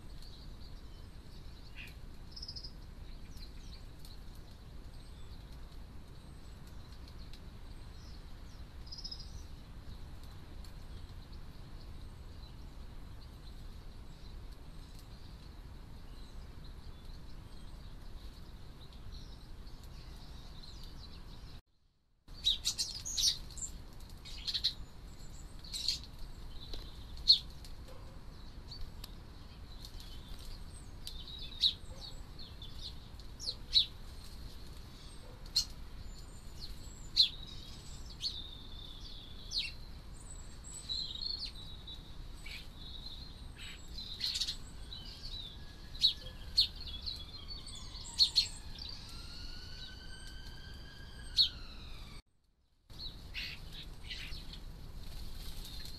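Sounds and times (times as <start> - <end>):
small birds chirping: 0.0 - 21.6, 22.3 - 52.2, 52.9 - 55.9.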